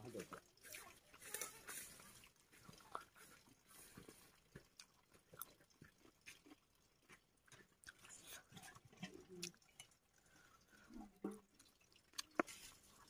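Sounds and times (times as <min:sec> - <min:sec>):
person chewing food: 0:00.2 - 0:13.0.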